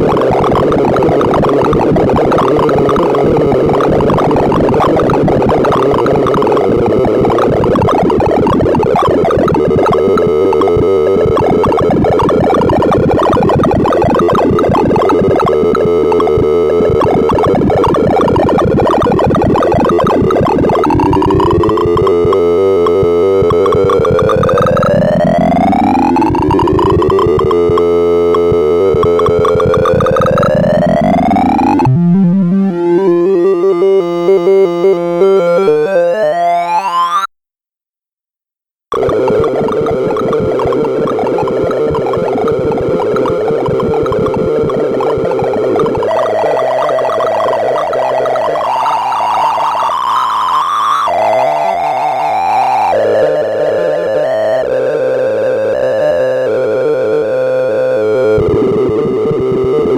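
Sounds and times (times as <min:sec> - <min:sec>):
synthesized beeps and rising glides: 0:00.0 - 0:37.3, 0:38.9 - 0:51.4.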